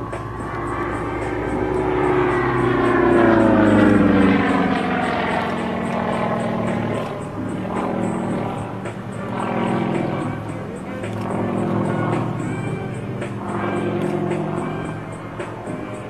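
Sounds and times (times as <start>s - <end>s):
propeller plane passing by: 0.0s - 16.0s.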